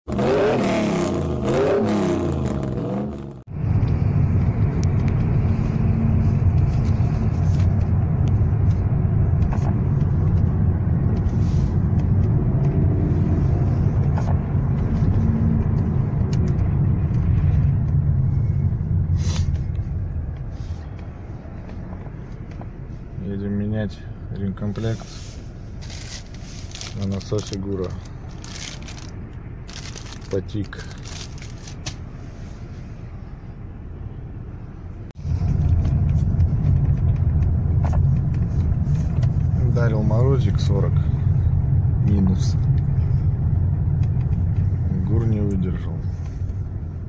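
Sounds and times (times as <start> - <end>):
car engine rumble inside cabin: 0.1 - 47.0.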